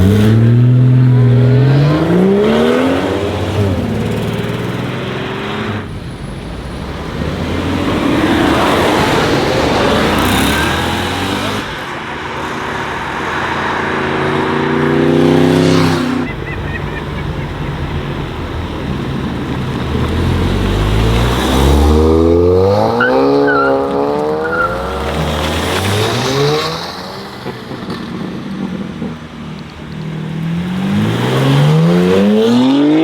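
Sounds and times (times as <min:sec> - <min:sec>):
car engine revving: 0:00.0 - 0:33.0
car rushing past: 0:00.0 - 0:33.0.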